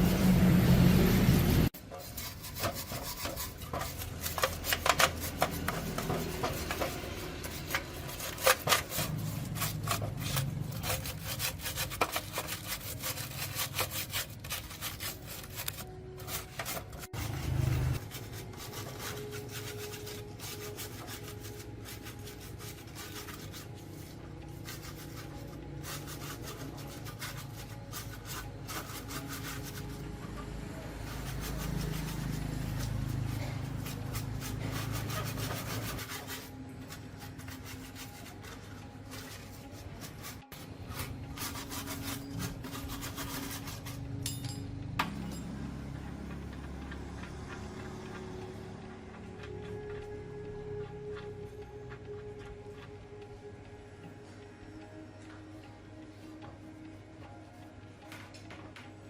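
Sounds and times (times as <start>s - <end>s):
hand rubbing and scraping: 0.0s - 53.2s.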